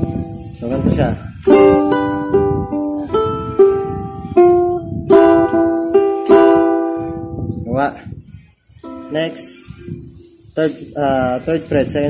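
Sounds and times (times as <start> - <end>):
ukulele played fingerstyle: 0.0 - 7.8, 8.8 - 10.8.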